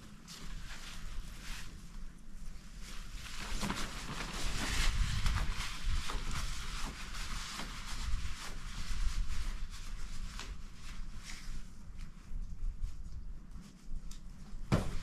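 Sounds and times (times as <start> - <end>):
tent fabric rustling and crinkling: 0.0 - 15.0.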